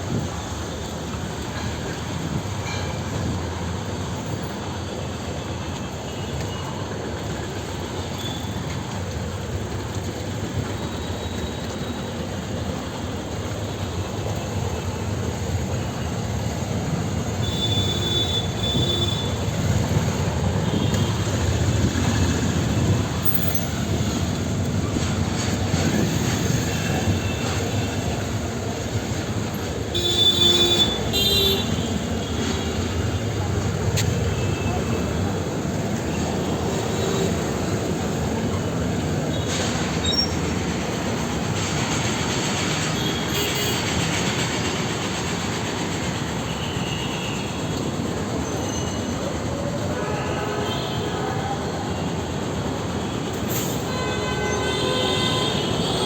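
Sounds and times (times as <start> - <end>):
heavy vehicle rumble: 0.0 - 56.0.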